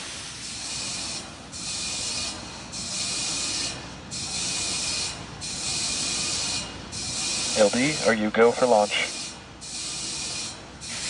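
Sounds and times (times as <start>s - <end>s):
high pulsing hiss: 0.0s - 11.0s.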